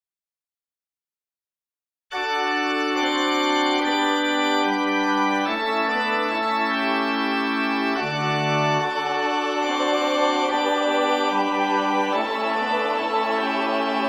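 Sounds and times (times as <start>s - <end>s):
organ playing sustained chords: 2.2s - 14.0s.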